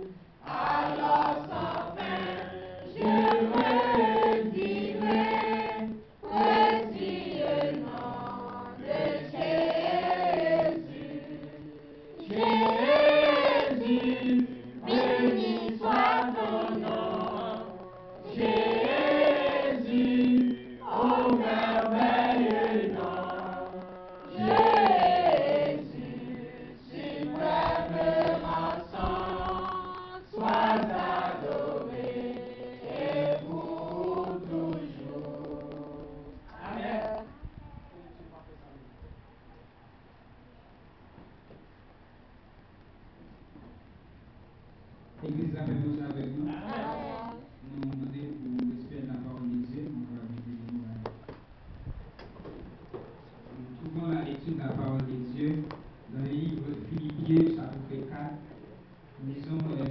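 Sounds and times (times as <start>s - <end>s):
congregation singing: 0.0s - 37.4s, 45.2s - 50.5s, 52.5s - 59.9s.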